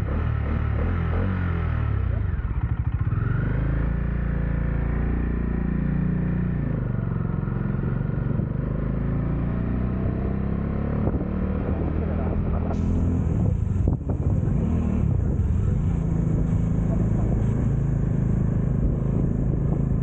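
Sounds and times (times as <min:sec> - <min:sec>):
motorcycle engine pulling away: 0:02.6 - 0:20.0.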